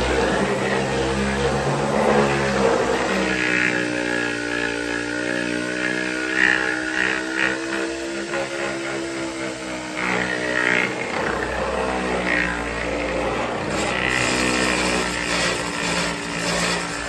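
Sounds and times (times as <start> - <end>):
motor humming: 0.0 - 17.0
scratchy sanding strokes: 0.0 - 17.0.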